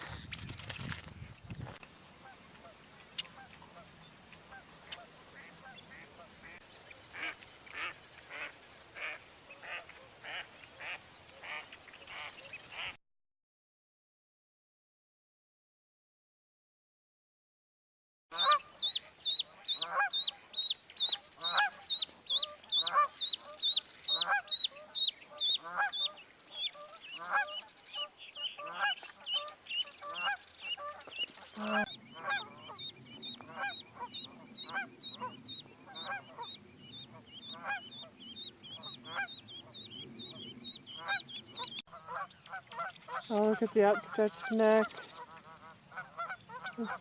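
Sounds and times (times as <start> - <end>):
geese honking: 2.2 - 13.0, 18.3 - 47.0.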